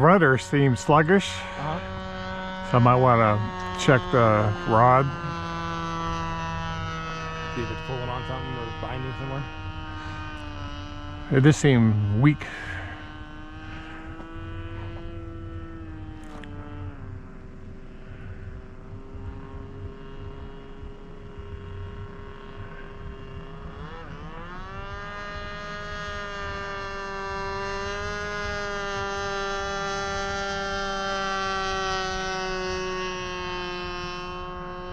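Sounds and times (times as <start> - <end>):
model airplane engine whining: 0.0 - 34.9.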